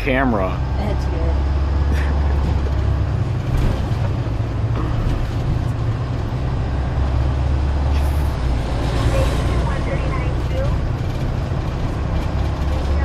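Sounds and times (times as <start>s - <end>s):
diesel engine drone: 0.0s - 13.0s
road and cabin noise: 0.0s - 13.0s.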